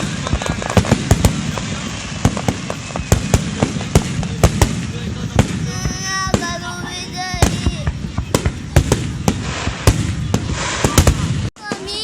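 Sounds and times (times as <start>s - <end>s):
fireworks bangs and crackles: 0.0s - 12.0s
voices: 0.0s - 12.0s.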